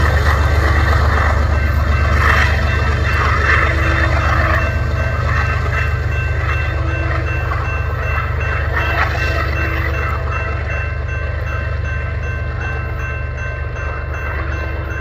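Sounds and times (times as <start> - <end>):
high-pitched ringing tones: 0.0 - 15.0
locomotive engine rumbling: 0.0 - 15.0
train wheels rolling on rails: 0.0 - 15.0.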